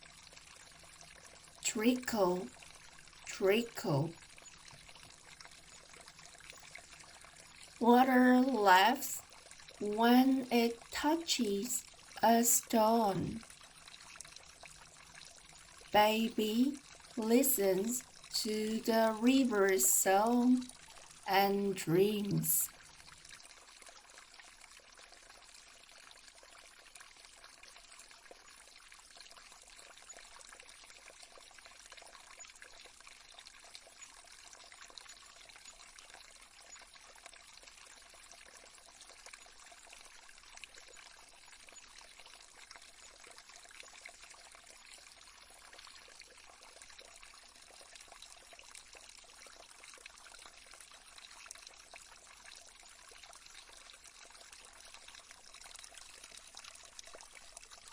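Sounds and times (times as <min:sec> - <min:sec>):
stream trickling: 0:00.0 - 0:57.9.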